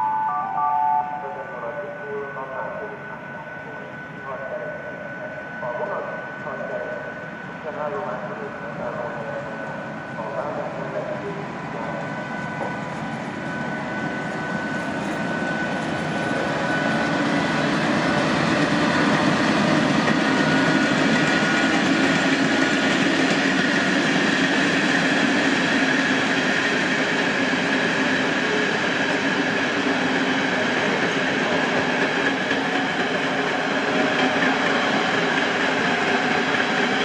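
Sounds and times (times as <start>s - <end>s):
train rolling past: 0.0s - 37.0s.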